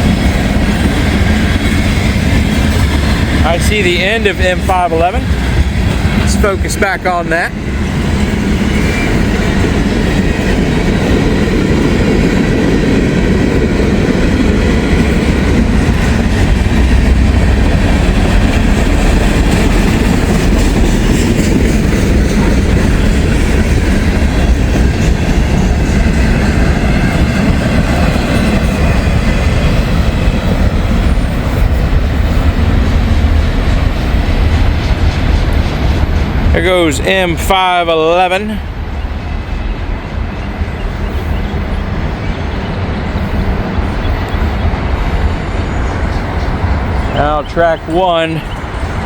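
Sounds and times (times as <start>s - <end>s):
freight train wheels rumbling on rails: 0.0s - 49.0s.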